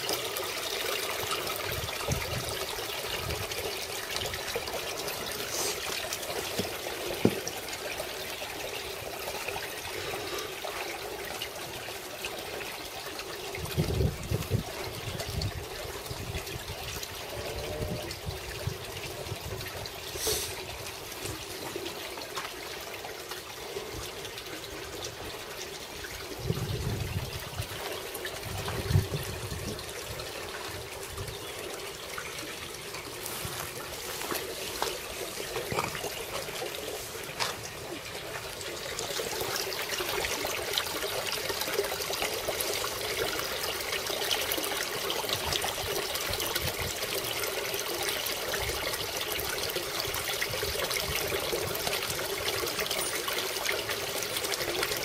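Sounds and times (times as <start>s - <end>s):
water trickling into pond: 0.0s - 55.0s.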